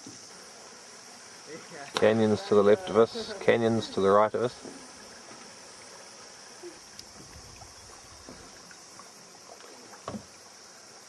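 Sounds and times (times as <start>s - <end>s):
canoe paddles dipping: 0.0s - 11.0s
water trickling and splashing: 0.0s - 11.0s.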